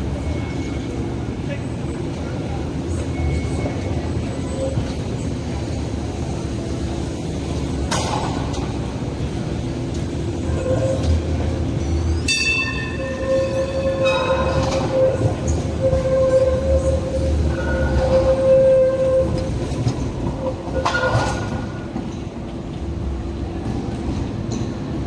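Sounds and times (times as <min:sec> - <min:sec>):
light rail vehicle rumbling: 0:00.0 - 0:25.0.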